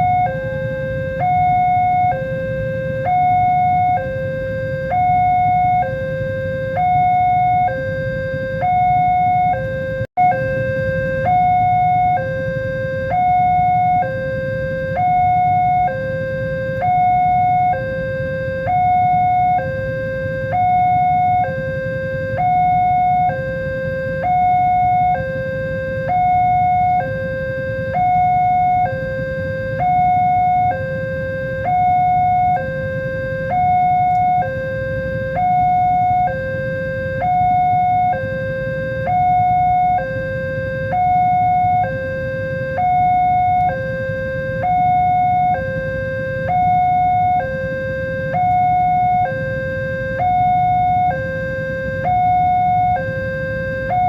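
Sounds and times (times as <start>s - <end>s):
two-tone level crossing alarm: 0.0s - 54.0s.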